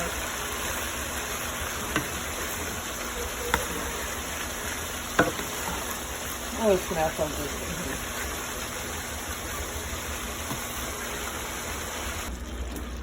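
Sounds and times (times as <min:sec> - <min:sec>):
food sizzling in a frying pan: 0:00.0 - 0:12.3.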